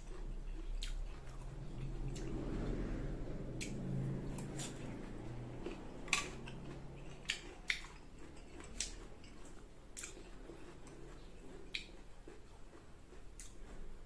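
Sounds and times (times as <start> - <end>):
chewing crisp mango: 0.0 - 14.0.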